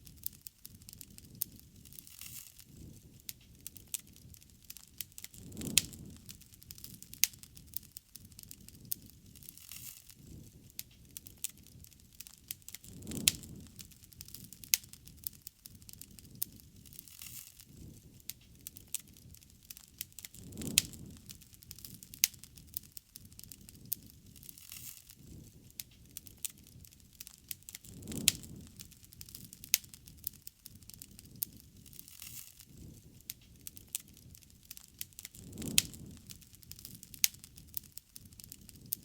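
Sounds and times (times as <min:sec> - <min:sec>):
fire pops and snaps: 0:00.0 - 0:39.0
low rush of flame: 0:00.0 - 0:39.0
wood fire crackling: 0:00.0 - 0:39.0.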